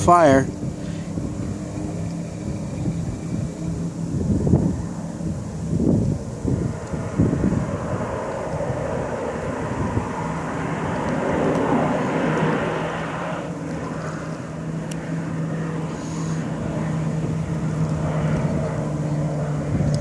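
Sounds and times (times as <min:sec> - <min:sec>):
distant airplane engine droning: 0:00.0 - 0:20.0.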